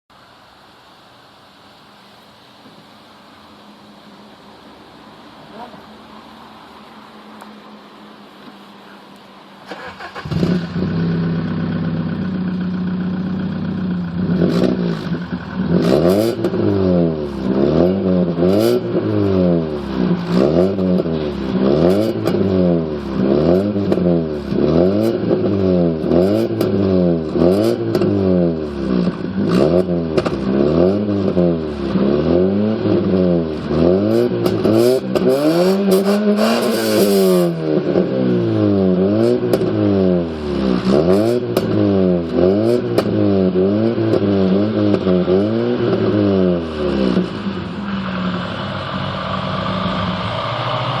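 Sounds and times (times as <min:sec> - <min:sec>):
car exhaust revving: 0:02.9 - 0:51.0.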